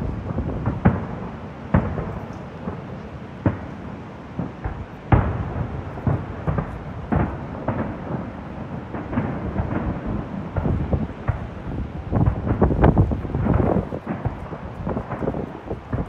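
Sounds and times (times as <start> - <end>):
background rushing noise: 0.0 - 16.0
fireworks booming: 0.0 - 16.0.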